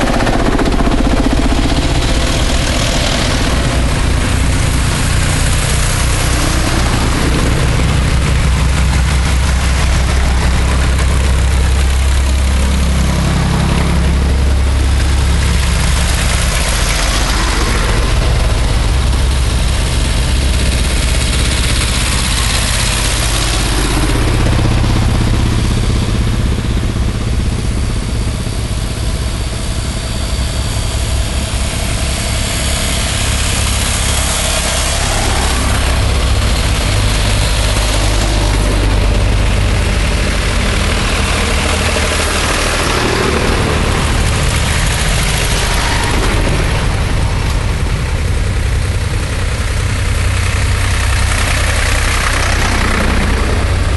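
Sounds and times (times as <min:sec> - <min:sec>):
tractors driving past: 0:00.0 - 0:53.9.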